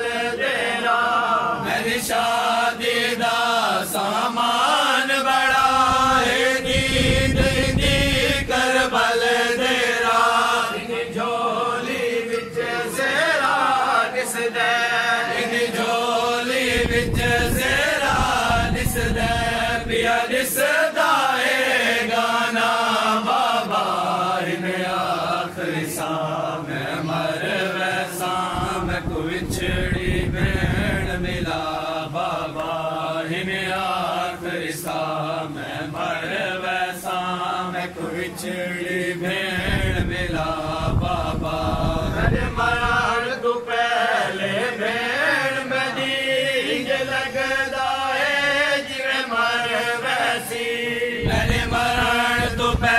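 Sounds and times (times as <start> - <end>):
lead voice singing melody: 0.0 - 52.9
men chanting mournful elegy: 0.0 - 52.9.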